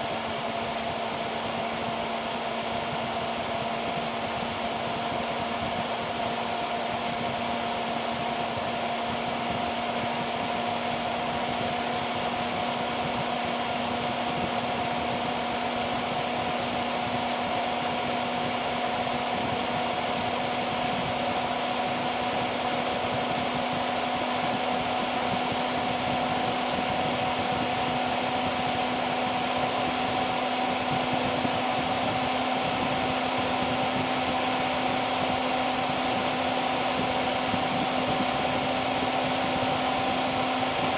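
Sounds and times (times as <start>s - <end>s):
computer fan whirring: 0.0s - 40.9s.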